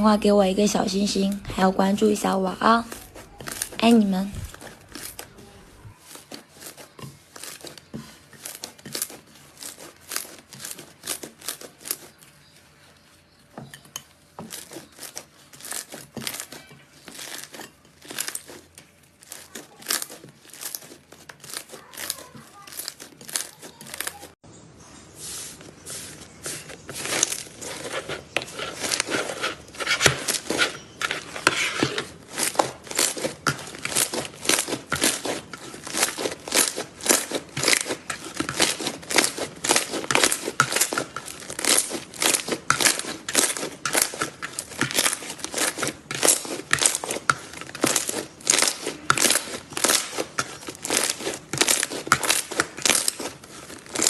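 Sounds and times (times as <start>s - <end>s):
slime crackling and popping: 2.8s - 5.4s, 6.0s - 12.2s, 14.4s - 24.4s, 27.0s - 54.0s.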